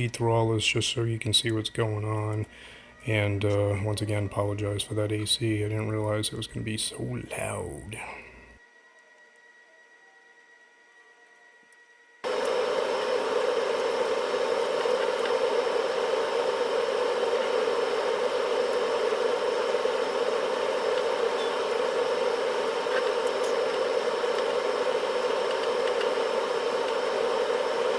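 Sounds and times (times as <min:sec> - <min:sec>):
air conditioner running: 0:00.0 - 0:08.8, 0:12.0 - 0:27.9.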